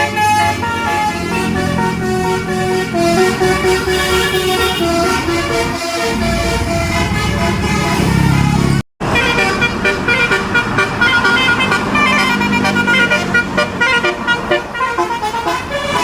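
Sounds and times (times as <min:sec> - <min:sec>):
multi-trumpet air horn tune: 0:00.0 - 0:16.0.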